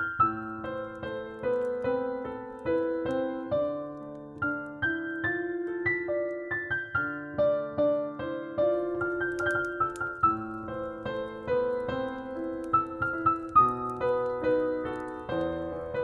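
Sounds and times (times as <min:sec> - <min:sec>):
faint fireplace crackles: 0:00.0 - 0:16.0
slow solo piano melody: 0:00.0 - 0:16.0.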